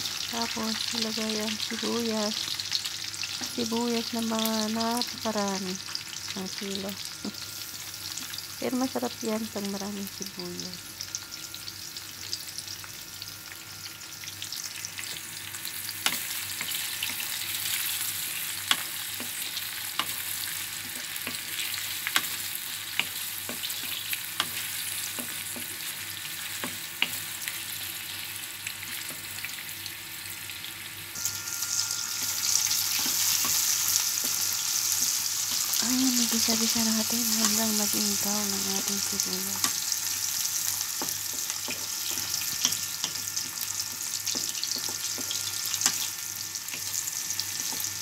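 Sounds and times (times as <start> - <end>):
food sizzling in hot oil: 0.0 - 48.0.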